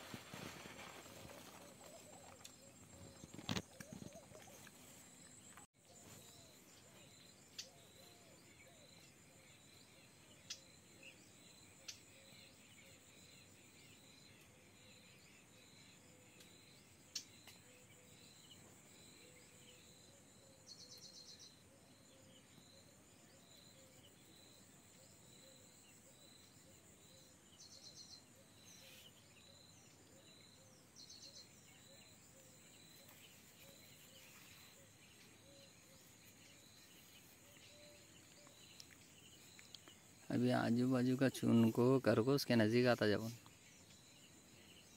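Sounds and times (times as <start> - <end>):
insect drone: 0.0 - 44.9
rapid insect chirping: 0.0 - 44.9.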